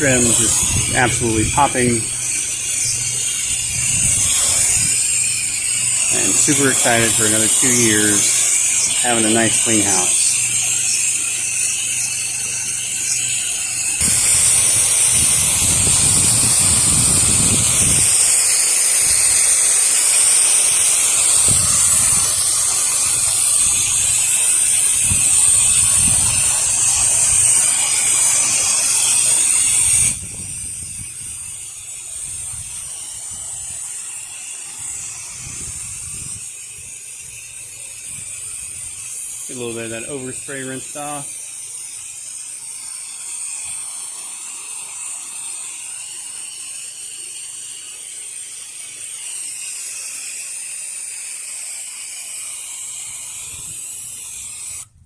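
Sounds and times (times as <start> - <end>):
pressure washer spraying water: 0.0 - 55.0.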